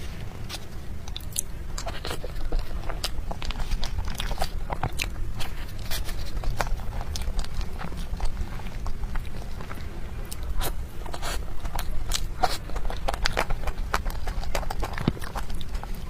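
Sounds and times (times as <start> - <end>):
close chewing and mouth clicks: 0.0 - 16.0
low steady hum: 0.0 - 16.0.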